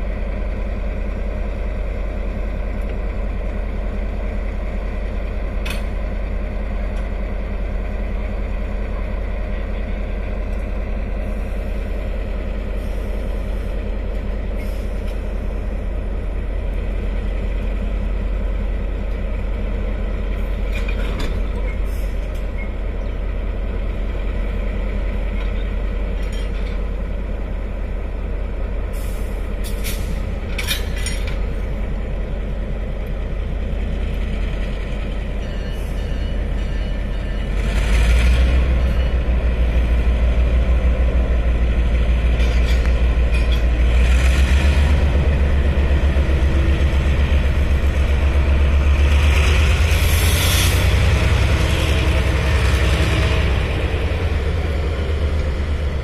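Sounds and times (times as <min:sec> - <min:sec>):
locomotive idling: 0:00.0 - 0:56.0.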